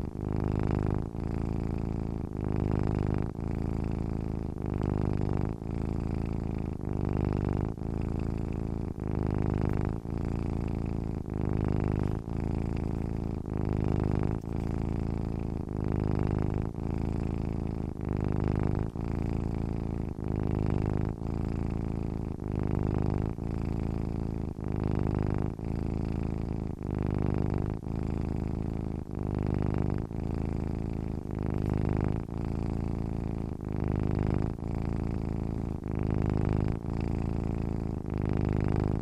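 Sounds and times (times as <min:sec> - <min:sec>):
cat purring: 0:00.0 - 0:39.0.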